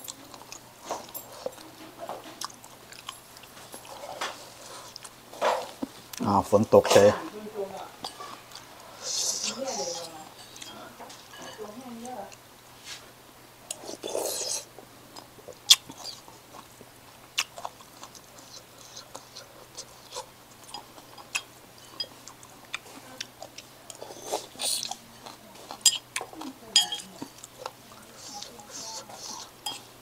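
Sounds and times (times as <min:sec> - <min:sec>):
person chewing and slurping: 0:00.0 - 0:06.2, 0:08.0 - 0:11.4, 0:13.7 - 0:30.0.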